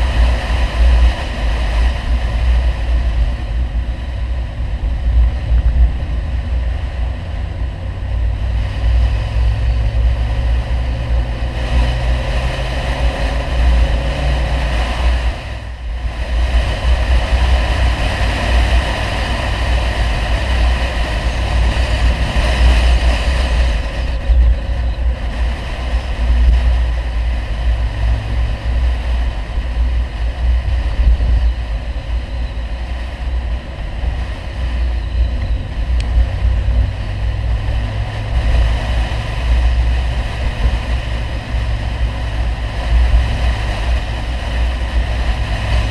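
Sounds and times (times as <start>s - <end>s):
car engine droning from inside: 0.0s - 45.9s.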